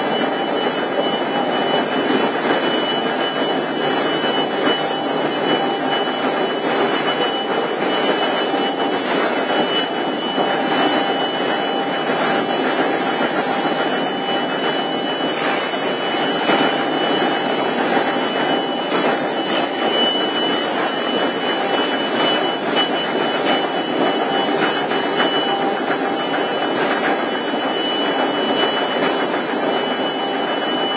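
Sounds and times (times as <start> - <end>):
machinery whirring and clattering: 0.0 - 30.9
thin high whine: 0.0 - 30.9.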